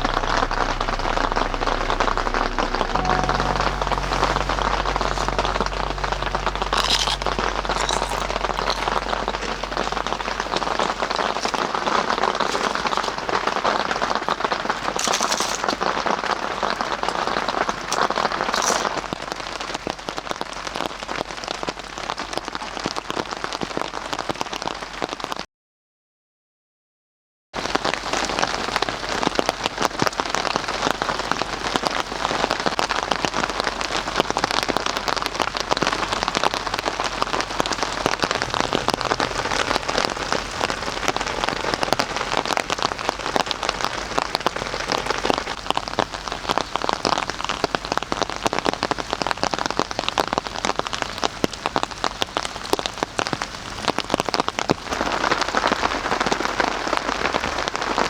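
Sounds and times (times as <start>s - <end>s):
steady rain: 0.0s - 25.4s, 27.6s - 58.0s.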